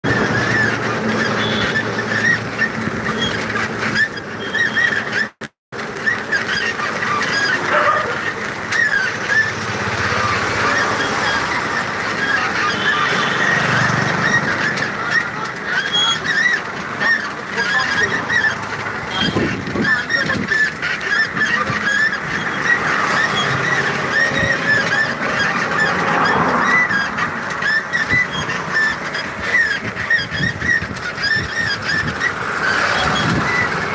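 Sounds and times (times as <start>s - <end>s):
high squeaky chirps: 0.0s - 33.9s
street noise: 0.0s - 33.9s
traffic: 0.0s - 33.9s.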